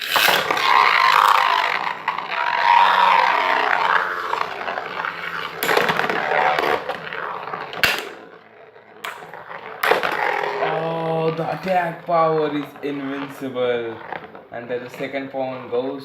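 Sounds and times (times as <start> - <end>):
spinning tops whirring: 0.0 - 15.8.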